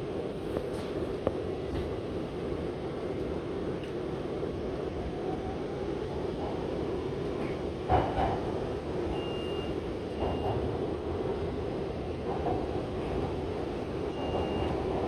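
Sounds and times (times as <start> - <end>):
train rumbling: 0.1 - 15.0.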